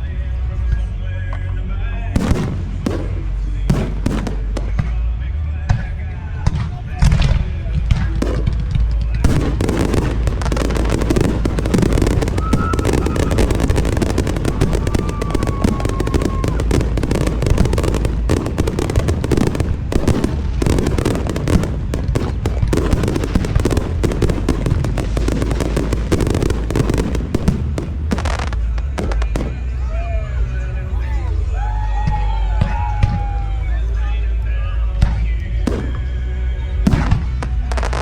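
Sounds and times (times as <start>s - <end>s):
deep rumble: 0.0s - 38.0s
fireworks bangs and crackles: 2.2s - 29.8s, 34.9s - 38.0s.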